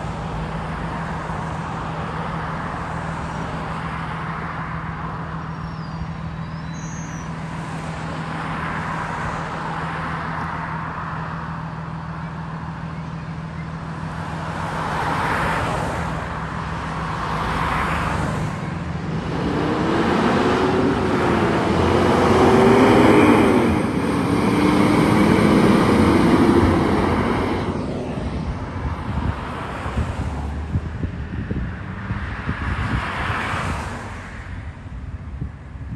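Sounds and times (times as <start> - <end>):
engine whine: 0.0 - 33.0
bus engine accelerating past: 0.0 - 34.2
cars passing: 0.0 - 35.9.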